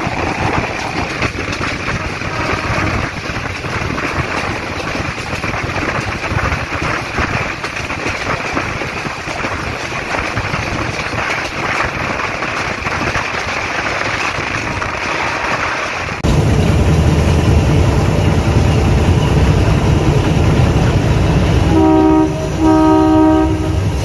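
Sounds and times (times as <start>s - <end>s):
wheels clattering on rails: 0.0s - 22.4s.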